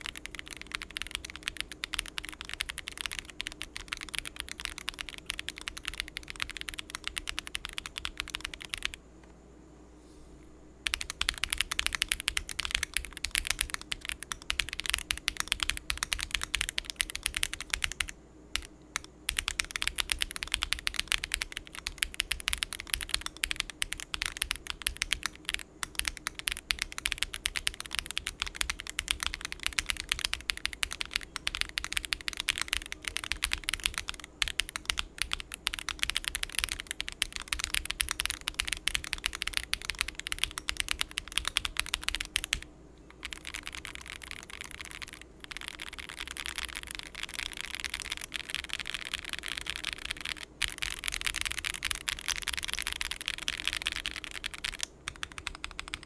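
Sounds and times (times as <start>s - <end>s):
mechanical keyboard typing: 0.0s - 9.0s, 10.8s - 56.0s.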